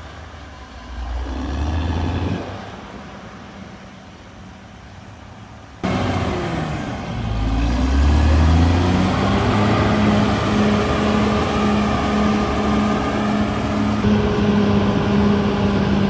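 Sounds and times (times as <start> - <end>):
bulldozer diesel engine under load: 0.0 - 4.4, 5.8 - 16.0.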